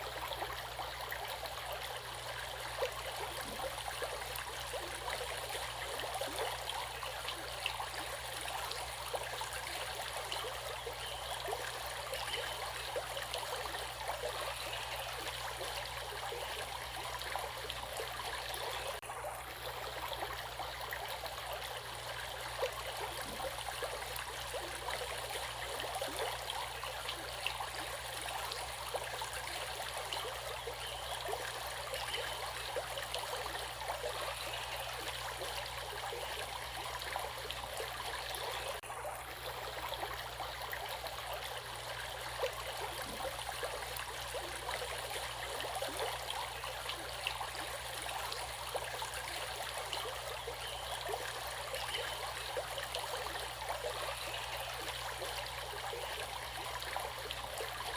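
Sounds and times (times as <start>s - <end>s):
stream water flowing: 0.0s - 57.9s.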